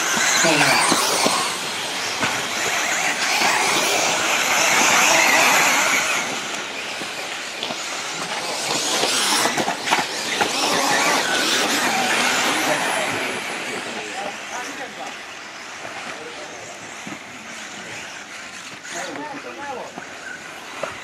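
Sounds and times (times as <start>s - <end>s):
rc car electric motors whining: 0.0s - 21.0s.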